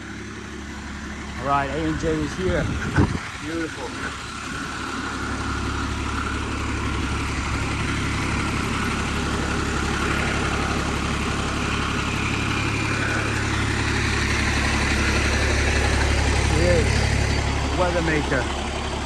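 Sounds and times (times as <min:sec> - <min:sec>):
heavy truck engine rumble: 0:00.0 - 0:19.0.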